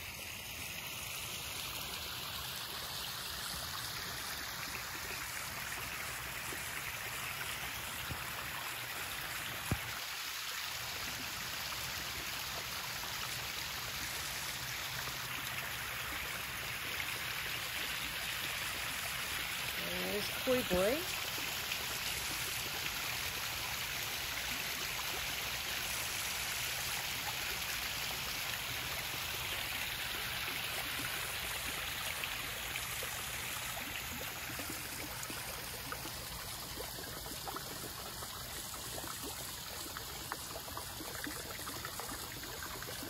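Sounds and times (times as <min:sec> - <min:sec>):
waterfall splashing into pond: 0:00.0 - 0:43.0.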